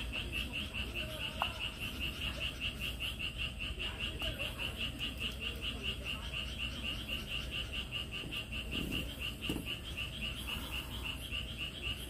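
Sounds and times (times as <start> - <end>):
high pulsing animal calls: 0.0 - 12.0.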